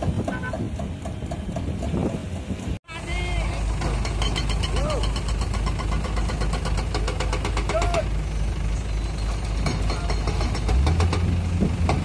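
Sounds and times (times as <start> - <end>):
excavator diesel engine clattering: 0.0 - 12.0.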